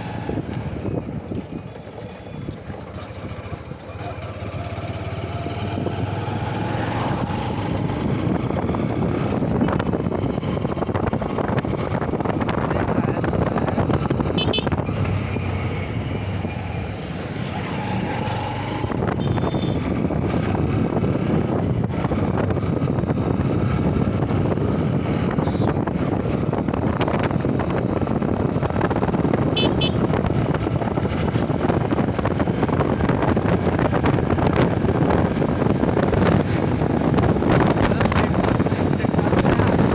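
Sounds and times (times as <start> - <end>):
motorcycle engine running: 0.0 - 16.9, 17.5 - 39.9
wind and road noise: 0.0 - 39.9.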